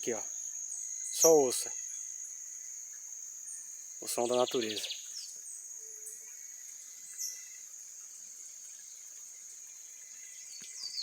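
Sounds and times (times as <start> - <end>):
faint ambient hiss: 0.0 - 11.0
high-pitched insect trill: 0.0 - 11.0.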